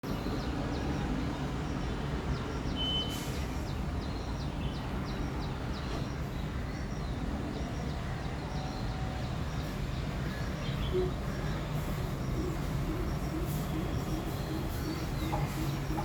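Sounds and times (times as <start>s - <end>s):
distant traffic rumble: 0.0s - 16.0s
small birds chirping: 0.2s - 16.0s.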